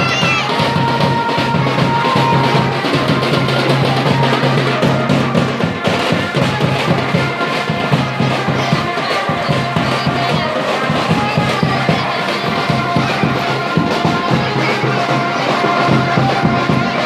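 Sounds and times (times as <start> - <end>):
heavy steady drumming: 0.0 - 17.0
loud festival music: 0.0 - 17.0.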